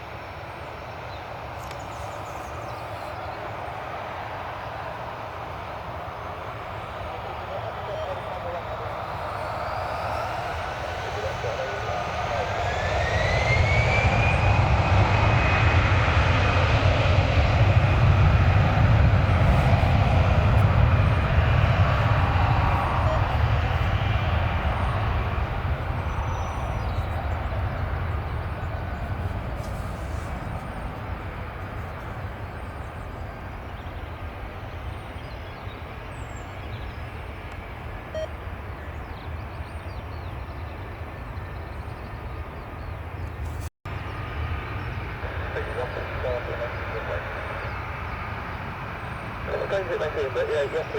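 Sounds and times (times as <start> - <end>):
jet airliner engines passing: 0.0 - 50.9.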